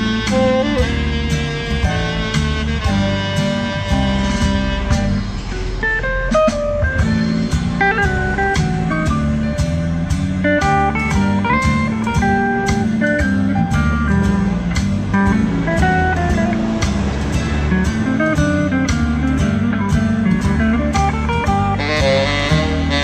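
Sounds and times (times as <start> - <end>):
bass line: 0.0 - 23.0
drum beat: 0.0 - 23.0
guitar melody: 0.0 - 23.0.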